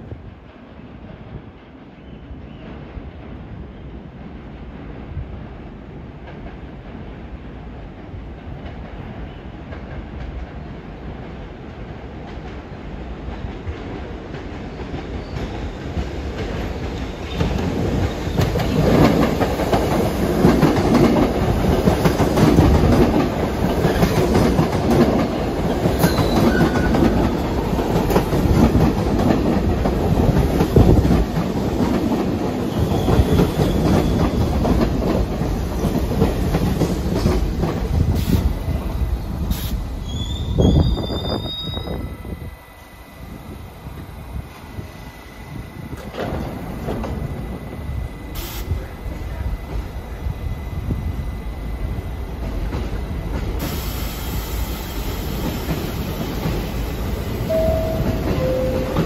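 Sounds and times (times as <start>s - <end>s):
subway train passing: 0.0s - 59.0s.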